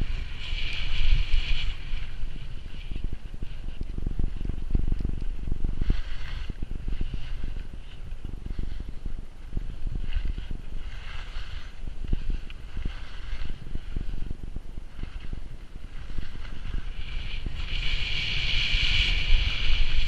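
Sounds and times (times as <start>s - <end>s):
skis scraping on snow: 0.0s - 20.0s
wind buffeting microphone: 0.0s - 20.0s.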